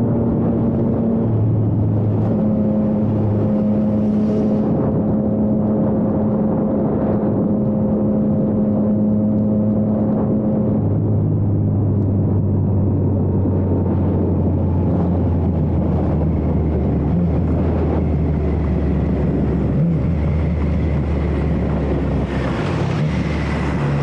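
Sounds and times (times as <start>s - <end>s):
motorcycle engine droning: 0.0s - 24.0s
wind rushing over microphone: 0.0s - 24.0s.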